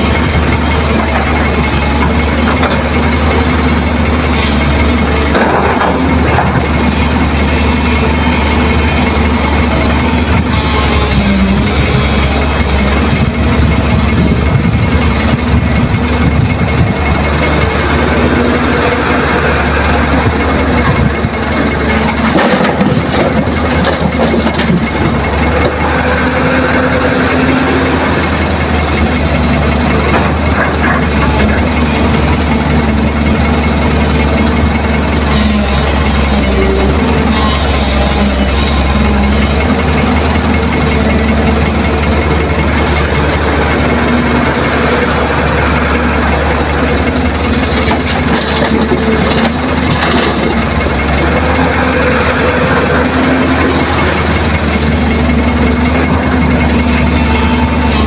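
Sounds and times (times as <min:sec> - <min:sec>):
dump truck idling: 0:00.0 - 0:58.0
excavator engine digging: 0:00.0 - 0:58.0.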